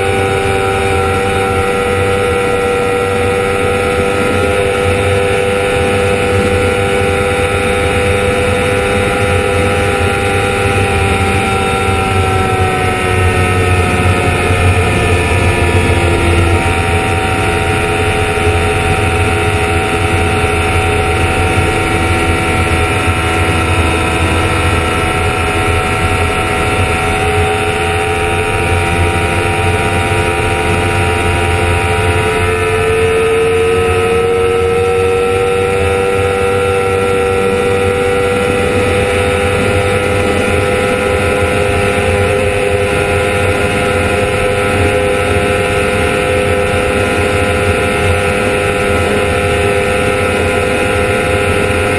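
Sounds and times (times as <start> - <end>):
heavy wind rush: 0.0 - 51.9
motorcycle engine at high revs: 0.0 - 51.9.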